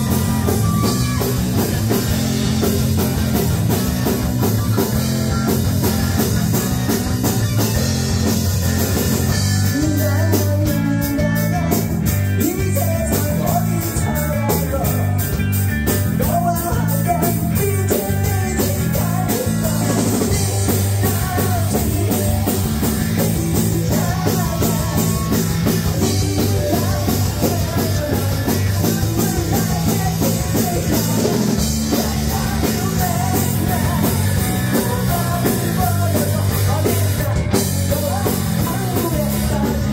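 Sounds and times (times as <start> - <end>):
man singing: 0.0 - 3.4, 6.5 - 39.9
bass guitar: 0.0 - 39.9
drum kit: 0.0 - 39.9.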